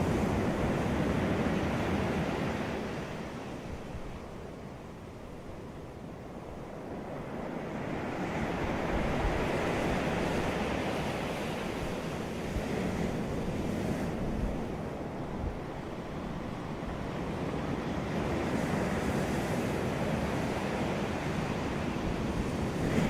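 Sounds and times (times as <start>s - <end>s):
sea waves breaking on a beach: 0.0s - 23.0s
wind rumbling on microphone: 0.0s - 23.0s.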